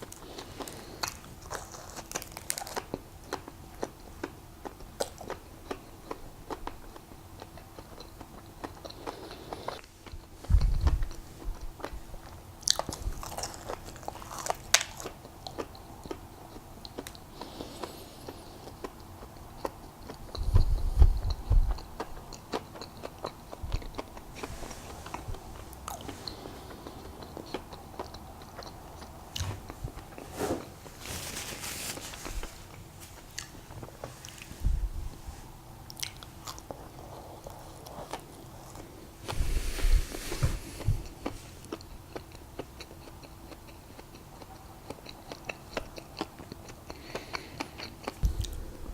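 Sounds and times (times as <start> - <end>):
wet chewing: 0.0 - 30.2, 35.8 - 39.4, 40.4 - 48.9.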